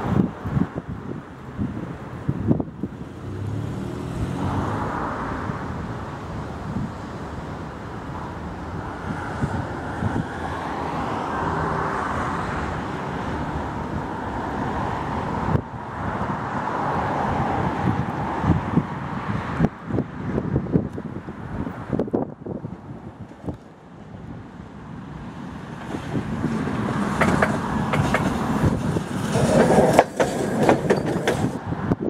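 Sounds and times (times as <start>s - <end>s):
road traffic: 0.0s - 32.0s
tram rolling on track: 0.0s - 32.0s
wind gusts on microphone: 0.0s - 32.0s.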